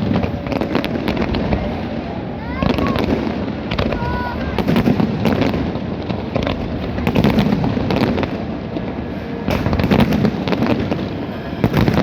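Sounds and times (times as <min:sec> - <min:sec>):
fireworks bangs: 0:00.0 - 0:12.0
low rumble of explosions: 0:00.0 - 0:12.0.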